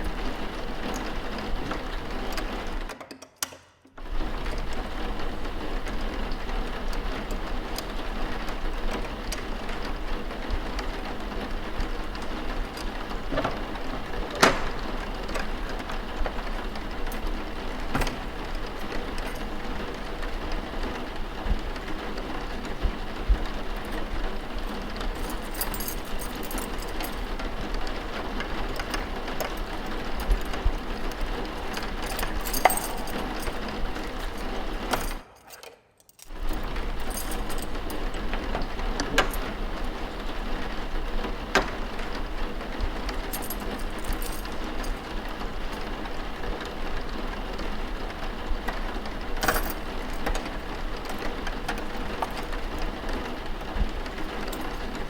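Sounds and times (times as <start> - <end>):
steady rain: 0.0 - 2.9, 4.0 - 35.2, 36.3 - 55.0
small clicks and knocks: 0.9 - 5.0, 5.8 - 20.6, 21.9 - 39.9, 41.3 - 42.2, 48.6 - 55.0.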